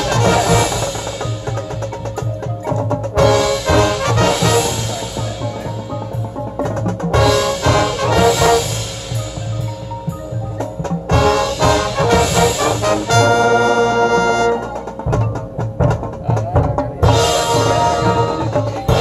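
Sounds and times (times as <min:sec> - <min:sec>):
brass playing: 0:00.0 - 0:15.2, 0:17.0 - 0:19.0
marching drums: 0:00.0 - 0:19.0.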